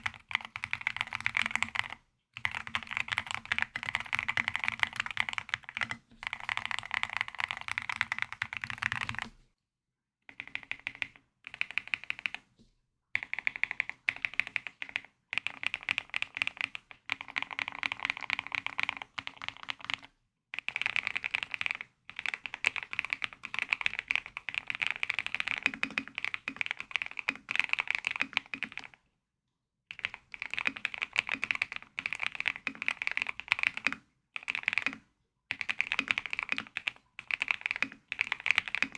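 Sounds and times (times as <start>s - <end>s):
mechanical keyboard typing: 0.0s - 9.3s, 10.3s - 12.4s, 13.2s - 29.0s, 29.9s - 38.9s.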